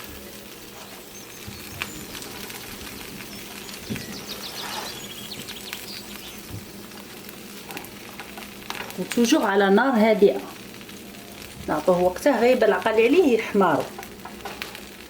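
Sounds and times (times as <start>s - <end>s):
sandwiches sizzling in a frying pan: 0.0s - 15.0s.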